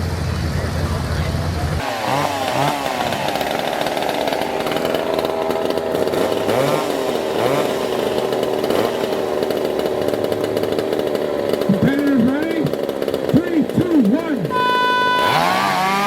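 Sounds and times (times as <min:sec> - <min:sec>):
chainsaw engine running at high speed: 0:00.0 - 0:16.0.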